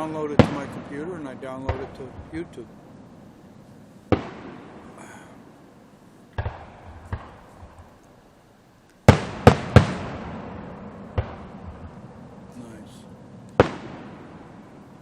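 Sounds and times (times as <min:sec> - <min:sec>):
fireworks bangs with rolling echo: 0:00.0 - 0:03.4, 0:04.1 - 0:08.0, 0:09.0 - 0:15.0.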